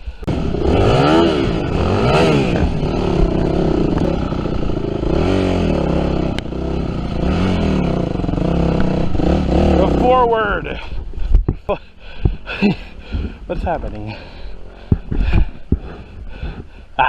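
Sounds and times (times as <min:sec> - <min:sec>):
dirt bike engine revving: 0:00.2 - 0:10.9, 0:12.5 - 0:16.7.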